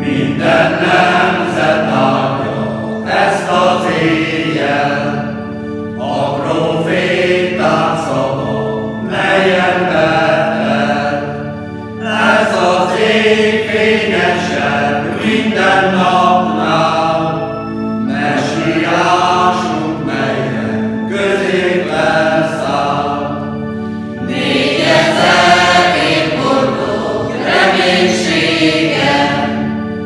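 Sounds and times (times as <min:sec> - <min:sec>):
mixed choir singing a carol: 0:00.0 - 0:30.0.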